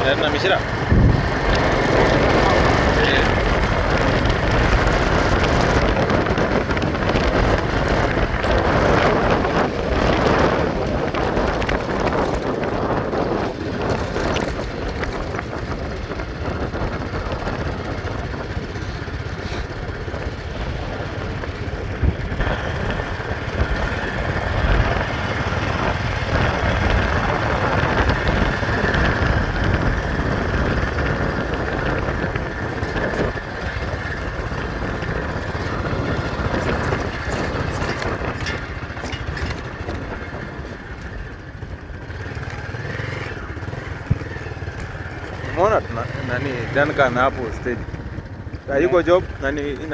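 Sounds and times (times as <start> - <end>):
vehicle running: 0.0 - 49.9
wind noise: 0.0 - 49.9.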